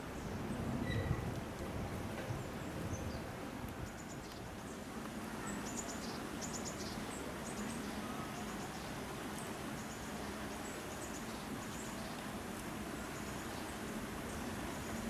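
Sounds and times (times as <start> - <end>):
outdoor background noise: 0.0 - 15.0
small birds chirping: 2.3 - 15.0.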